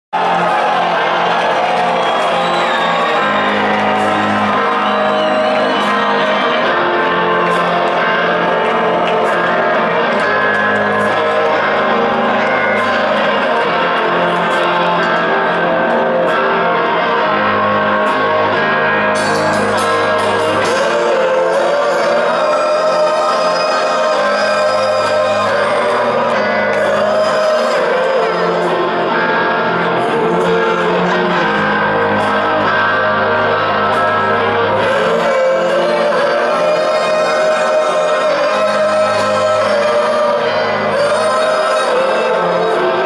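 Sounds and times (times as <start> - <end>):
crowd whooping and shouting: 0.1 - 43.0
live rock band playing: 0.2 - 43.0.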